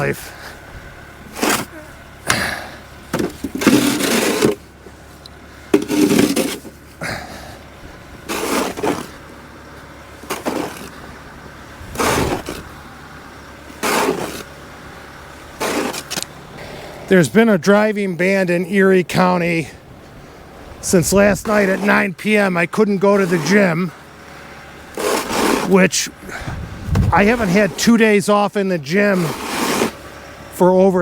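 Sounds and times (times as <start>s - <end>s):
snow shovel scraping pavement: 0.0s - 7.6s, 8.2s - 17.4s, 19.1s - 30.4s
low hum: 0.0s - 28.2s.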